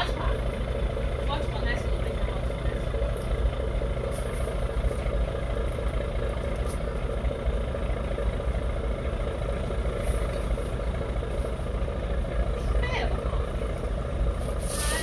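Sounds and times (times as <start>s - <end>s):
ship diesel engine idling: 0.0s - 15.0s.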